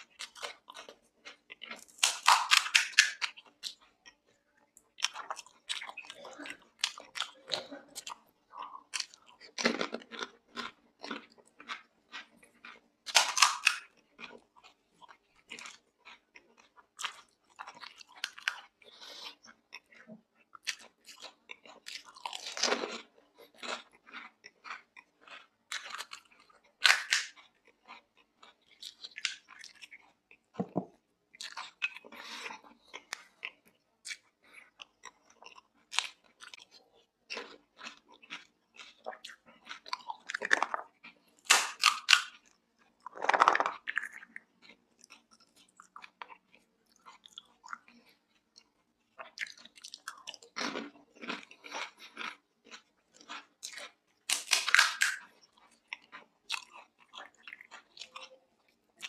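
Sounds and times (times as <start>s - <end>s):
chewing crisp shells: 0.0s - 59.0s.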